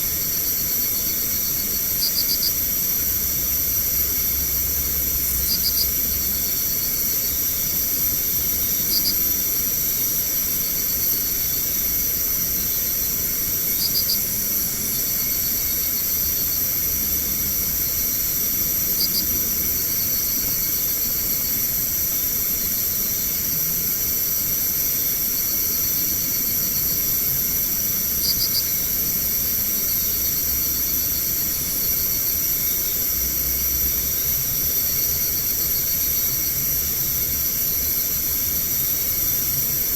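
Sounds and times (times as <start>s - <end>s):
crickets chorus: 0.0s - 39.9s.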